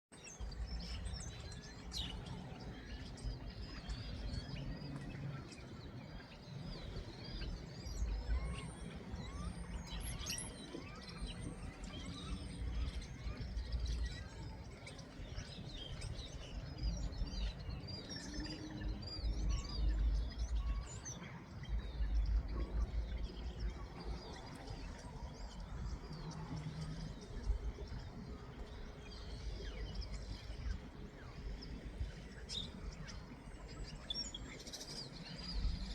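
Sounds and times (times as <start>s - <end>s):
small birds chirping: 0.2s - 35.9s.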